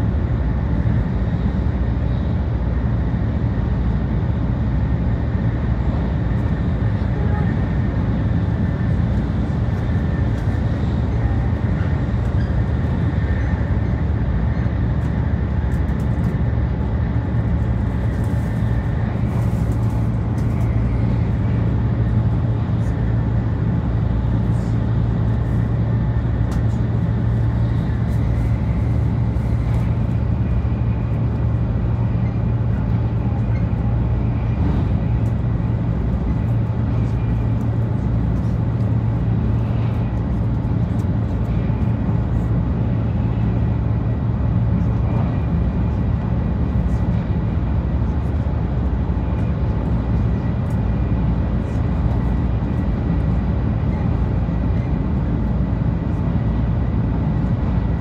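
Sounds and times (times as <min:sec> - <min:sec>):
train cabin running noise: 0:00.0 - 0:58.0.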